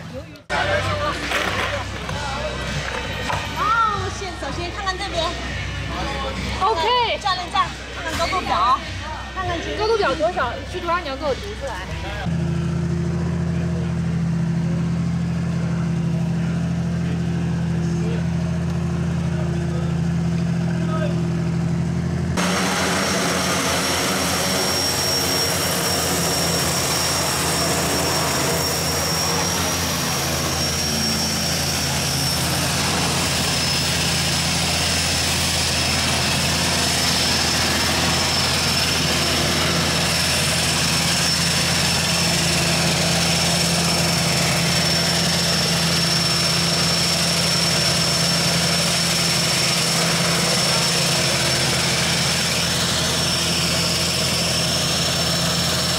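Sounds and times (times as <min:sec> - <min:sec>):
high turbine whine: 0:00.0 - 0:55.9
turboprop engine and propeller: 0:00.0 - 0:55.9.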